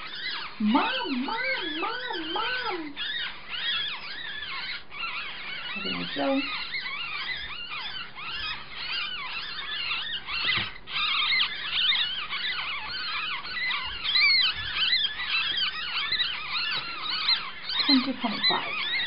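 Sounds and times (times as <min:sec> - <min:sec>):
baby animals squeaking: 0:00.0 - 0:19.0.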